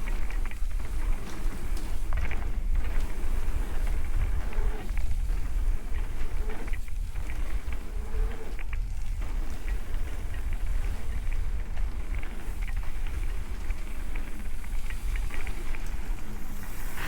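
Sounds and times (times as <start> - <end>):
bike clicks and rattles: 0.0 - 17.0
wind rumble on microphone: 0.0 - 17.0.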